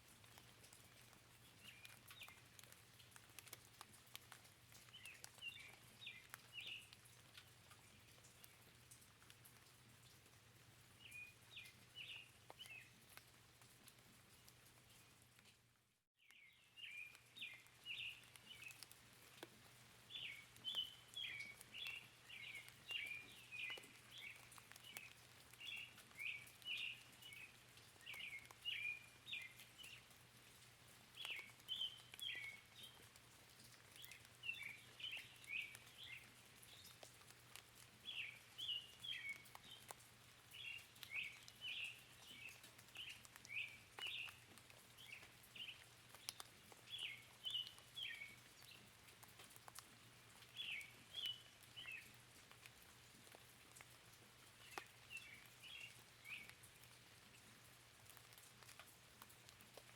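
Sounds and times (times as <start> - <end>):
rain pattering: 0.0 - 59.9
small birds chirping: 0.1 - 10.2, 10.8 - 15.2, 16.2 - 59.9.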